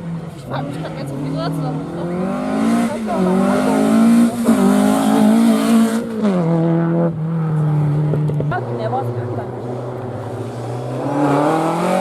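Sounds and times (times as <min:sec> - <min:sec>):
rally car engine at high revs: 0:00.1 - 0:12.0.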